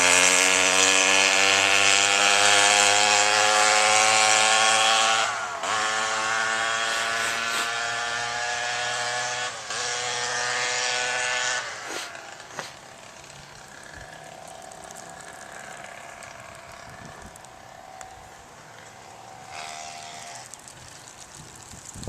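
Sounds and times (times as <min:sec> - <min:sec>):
two-stroke engine at high revs: 0:00.0 - 0:20.6.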